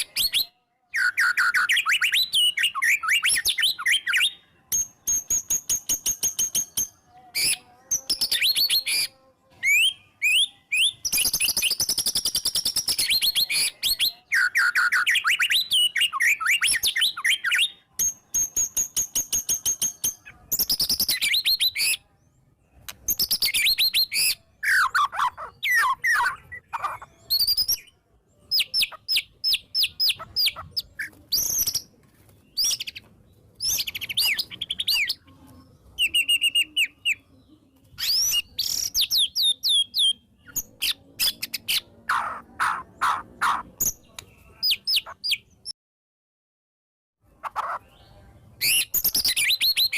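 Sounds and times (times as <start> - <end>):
songbird singing: 0.0 - 45.8, 47.2 - 49.9.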